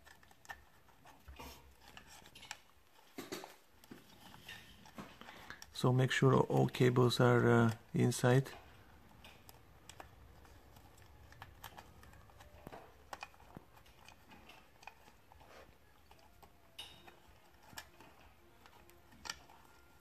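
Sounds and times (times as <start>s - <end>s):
small clicks and rustles of wires: 0.0s - 20.0s.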